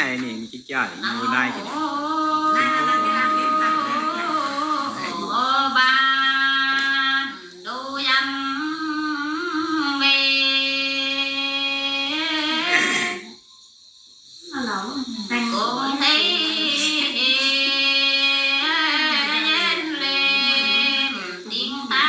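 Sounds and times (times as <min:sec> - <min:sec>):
woman singing folk song: 0:01.0 - 0:13.2, 0:14.6 - 0:22.0.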